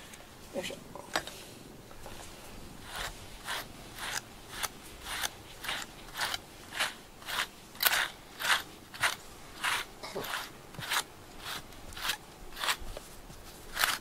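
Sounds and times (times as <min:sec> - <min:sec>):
brush swishing through cat fur: 0:02.0 - 0:14.0.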